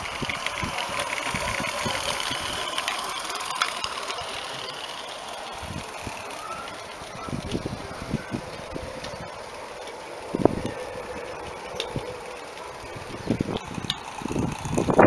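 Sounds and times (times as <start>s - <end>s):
steam engine hissing and ticking: 0.0s - 15.0s.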